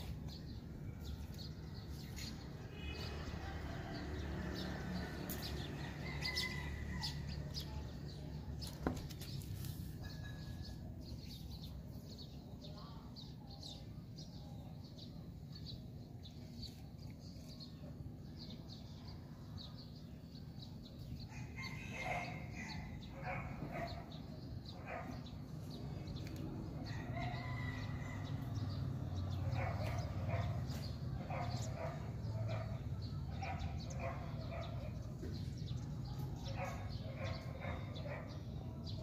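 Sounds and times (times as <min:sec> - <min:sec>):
birds chirping: 0:04.6 - 0:39.0.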